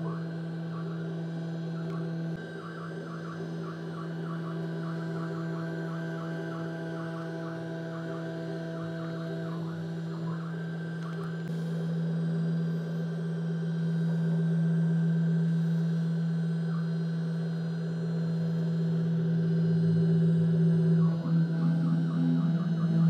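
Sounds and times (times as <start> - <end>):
router spindle humming and whining: 0.0 - 23.0.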